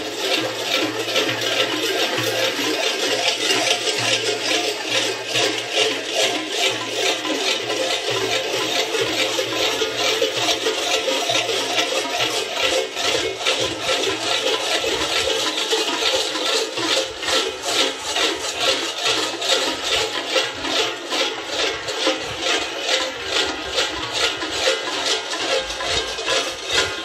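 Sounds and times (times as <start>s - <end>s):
large bells clanging: 0.0s - 27.0s.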